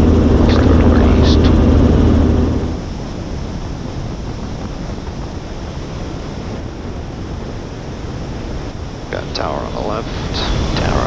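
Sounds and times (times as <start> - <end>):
helicopter rotor and engine noise: 0.0 - 11.0
wind rushing over microphone: 0.0 - 11.0.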